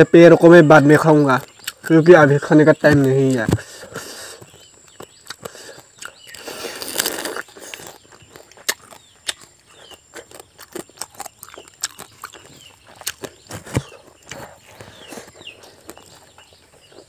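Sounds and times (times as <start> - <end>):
wet chewing and lip smacking: 1.3 - 2.1, 3.3 - 17.0.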